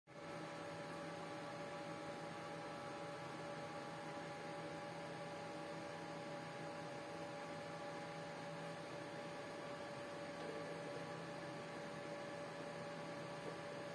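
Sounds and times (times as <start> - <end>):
steady electrical hum: 0.1 - 13.9.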